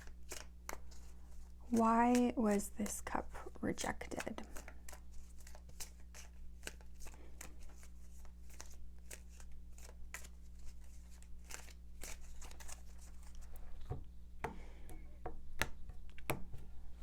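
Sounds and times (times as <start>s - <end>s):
cards being shuffled: 0.0s - 14.0s.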